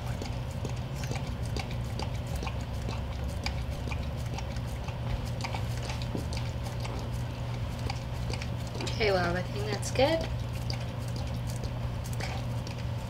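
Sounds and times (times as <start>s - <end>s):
dog licking and eating: 0.0s - 13.0s
steady low hum: 0.0s - 13.0s.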